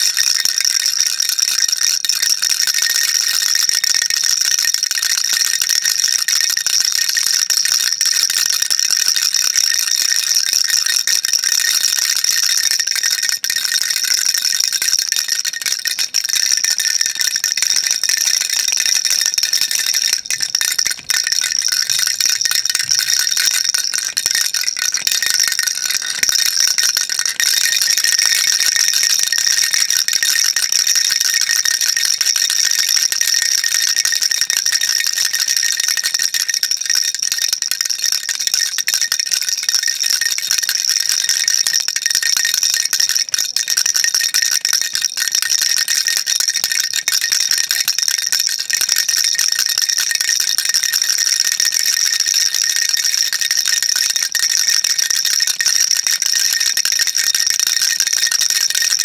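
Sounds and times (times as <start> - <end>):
baby rattle shaken: 0.0 - 49.1.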